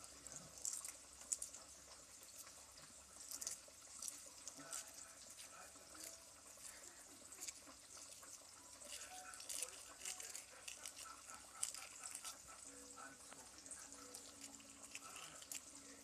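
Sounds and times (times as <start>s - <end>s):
eggshell crackling as peeled: 0.0s - 16.0s.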